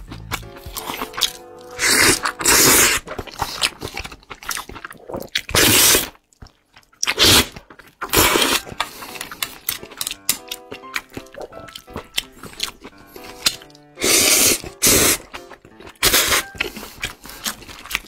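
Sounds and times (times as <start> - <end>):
slurping oysters: 0.0 - 18.0
wet chewing smacks and clicks: 0.0 - 18.0.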